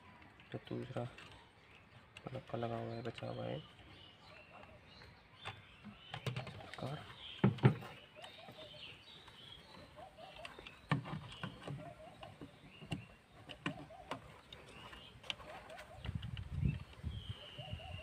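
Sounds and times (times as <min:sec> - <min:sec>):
birds calling softly: 0:00.0 - 0:18.0.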